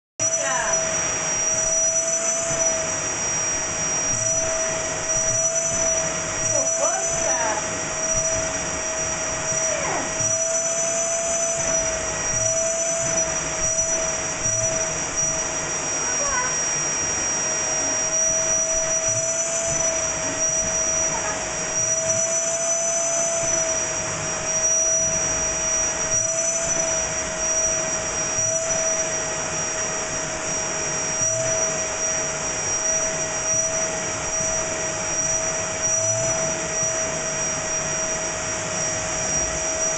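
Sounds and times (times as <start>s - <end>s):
vacuum cleaner whine: 0.2s - 39.9s.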